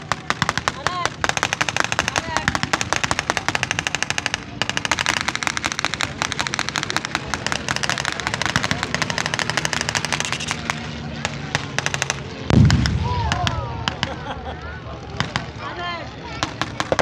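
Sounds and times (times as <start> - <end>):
machine-gun fire: 0.0 - 14.3, 15.2 - 15.6, 16.4 - 17.0
aircraft piston engines droning: 0.0 - 17.0.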